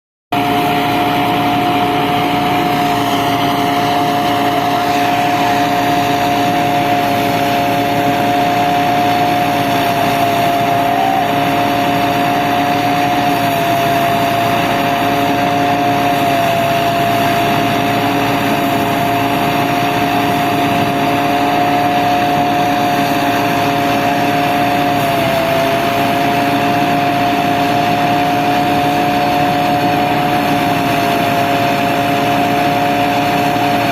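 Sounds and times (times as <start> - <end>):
harvester engine running: 0.3 - 33.9
steady whine: 0.3 - 33.9.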